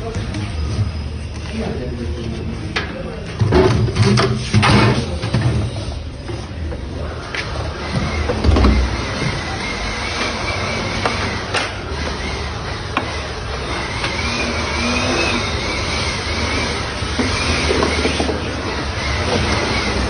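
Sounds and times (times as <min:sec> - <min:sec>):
vacuum cleaner whining: 0:03.6 - 0:20.0.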